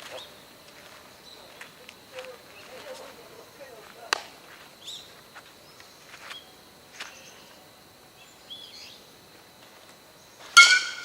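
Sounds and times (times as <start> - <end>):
faint open-air background noise: 0.0 - 11.0.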